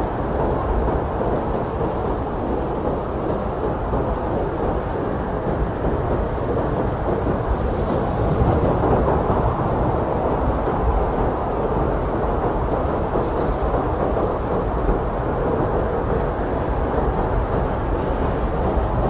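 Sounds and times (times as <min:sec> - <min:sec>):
strong blizzard wind blowing: 0:00.0 - 0:19.0.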